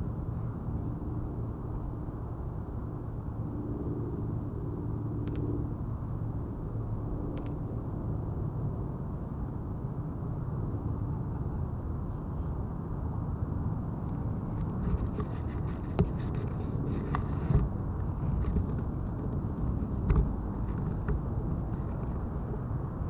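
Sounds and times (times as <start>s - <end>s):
low wind rumble: 0.0s - 23.0s.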